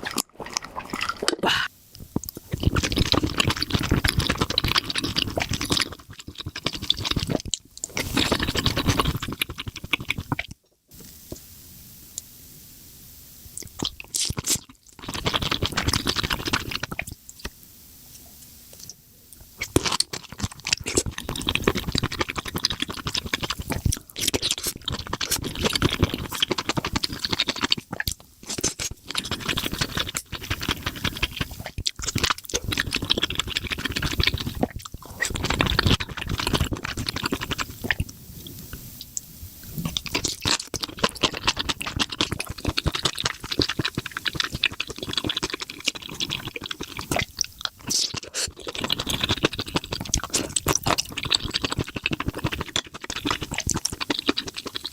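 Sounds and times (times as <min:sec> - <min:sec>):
close-miked wet chewing: 0:00.0 - 0:10.6, 0:18.7 - 0:54.9.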